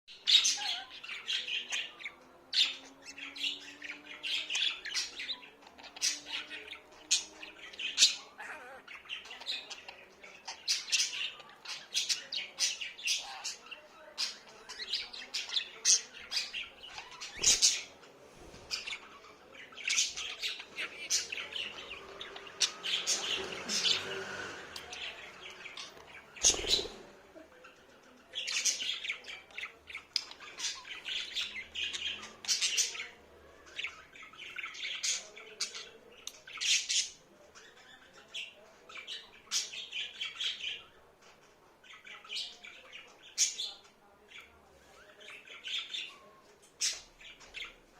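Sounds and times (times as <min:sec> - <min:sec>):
budgerigars chirping and warbling: 0:00.1 - 0:47.9.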